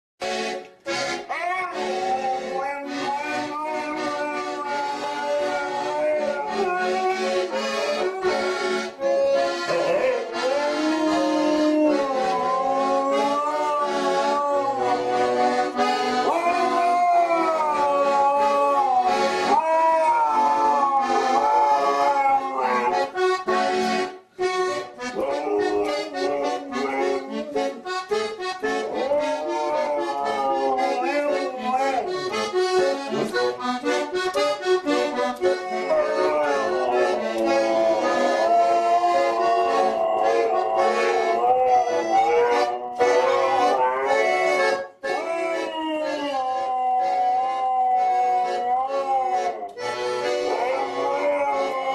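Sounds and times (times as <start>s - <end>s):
button accordion playing tune: 0.2s - 17.8s, 19.0s - 19.5s, 20.4s - 45.7s, 46.6s - 51.8s
dog howling: 1.3s - 8.8s, 9.7s - 23.3s, 25.1s - 27.9s, 28.7s - 32.6s, 35.4s - 51.9s.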